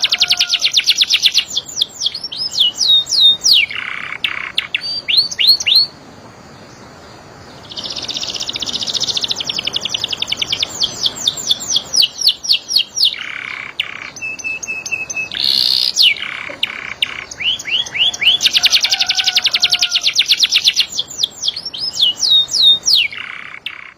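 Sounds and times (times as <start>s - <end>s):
canary singing: 0.0s - 23.9s.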